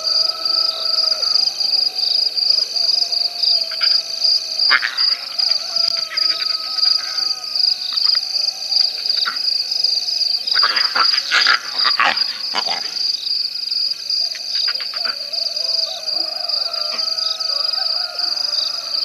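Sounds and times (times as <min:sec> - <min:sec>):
frogs and insects trilling: 0:00.0 - 0:19.0.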